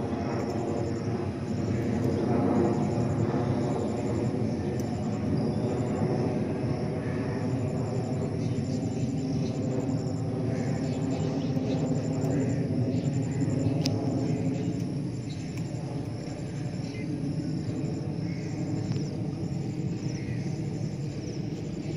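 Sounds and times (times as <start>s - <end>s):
insect chirps: 0.0s - 21.9s.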